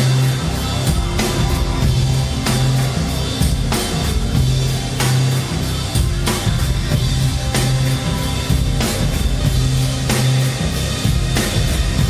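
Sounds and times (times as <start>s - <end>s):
heavy drum and cymbal hits: 0.0s - 12.0s
live rock band playing: 0.0s - 12.0s.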